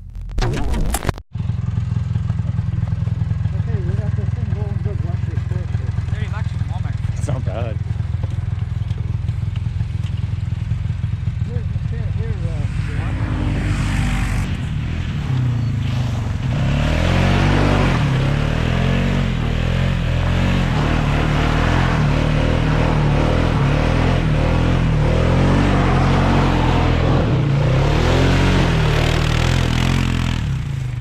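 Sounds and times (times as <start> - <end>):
vehicle engine revving: 1.5 - 31.0.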